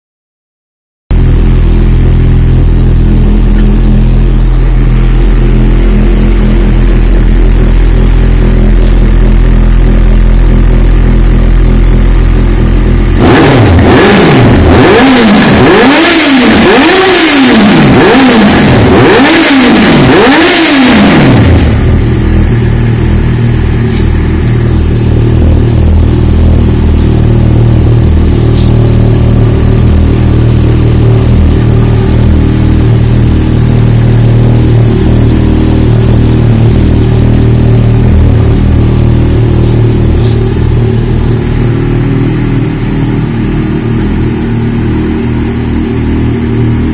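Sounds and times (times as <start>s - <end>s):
motorcycle engine revving and idling: 1.1s - 46.9s.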